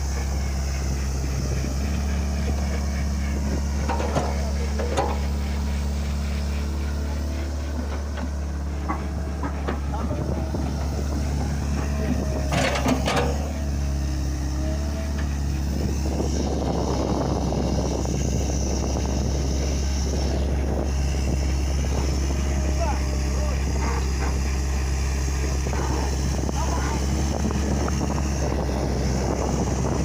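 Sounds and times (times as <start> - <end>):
diesel excavator engine running: 0.0 - 30.0.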